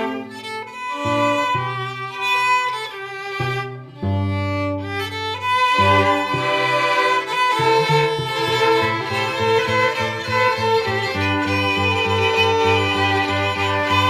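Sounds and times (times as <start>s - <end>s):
string ensemble playing: 0.0s - 14.0s.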